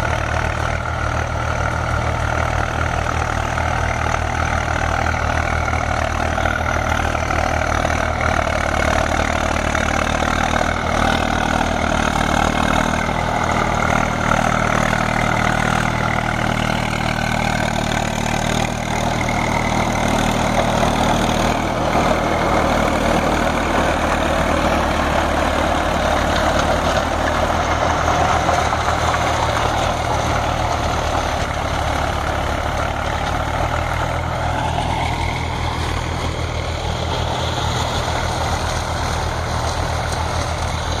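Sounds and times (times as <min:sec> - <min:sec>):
diesel tractor engine: 0:00.0 - 0:41.0
tiller blades churning soil: 0:00.0 - 0:41.0.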